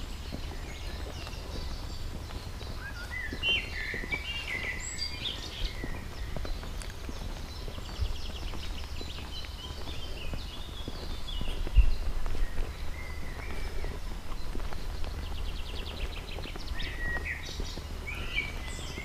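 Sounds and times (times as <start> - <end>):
footsteps on stony path: 0.0 - 19.0
songbirds singing: 0.0 - 19.0
steady low rumble: 0.0 - 19.0.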